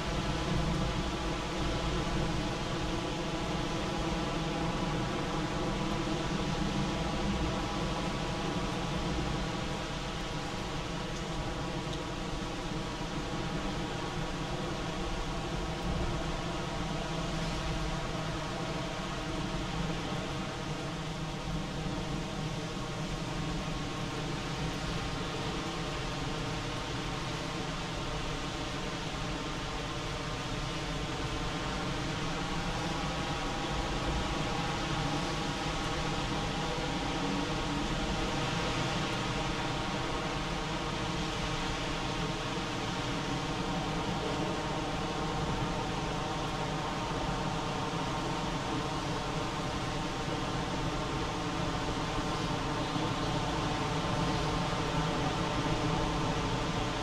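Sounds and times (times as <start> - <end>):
heavy rain on shrubs and pavement: 0.0 - 57.0.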